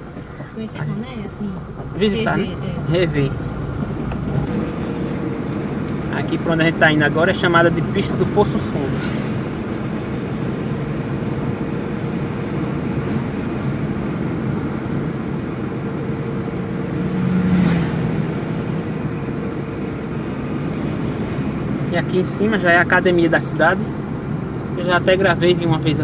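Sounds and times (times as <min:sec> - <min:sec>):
car engine and road noise: 0:00.0 - 0:26.0
van passing: 0:00.0 - 0:26.0.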